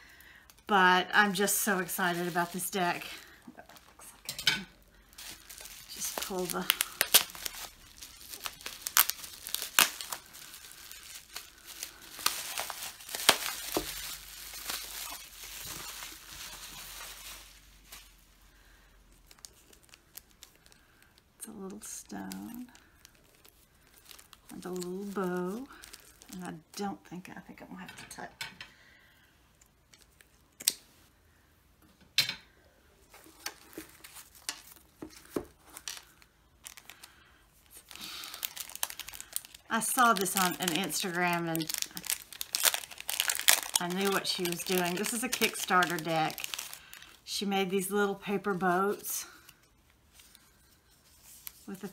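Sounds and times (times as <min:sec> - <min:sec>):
bubble wrap crinkling: 0:00.2 - 0:27.6, 0:33.0 - 0:51.9
ribbon rustling: 0:00.5 - 0:18.5, 0:19.1 - 0:26.8, 0:33.0 - 0:51.9.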